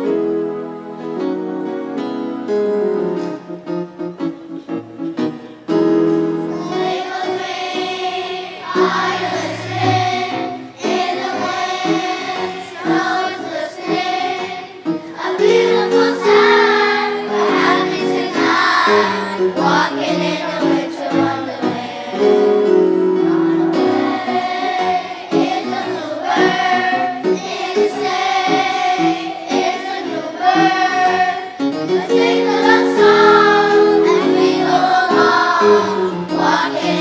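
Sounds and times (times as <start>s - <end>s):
children's choir singing: 0.0s - 4.8s, 5.6s - 37.0s
piano accompaniment: 0.0s - 37.0s.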